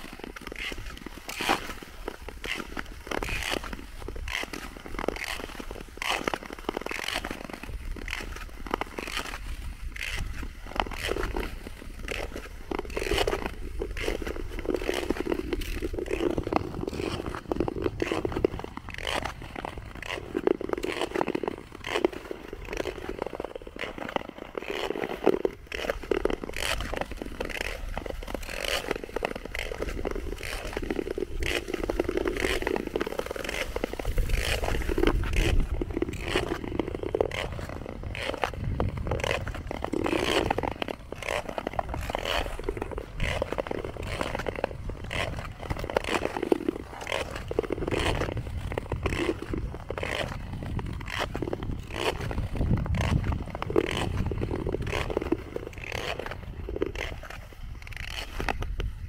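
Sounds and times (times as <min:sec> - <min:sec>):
ice skate blades scraping ice: 0:00.0 - 0:59.0.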